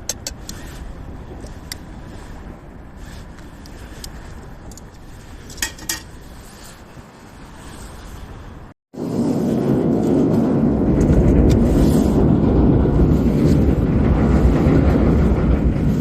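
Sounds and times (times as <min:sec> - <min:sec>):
fire roaring: 0:00.5 - 0:16.0.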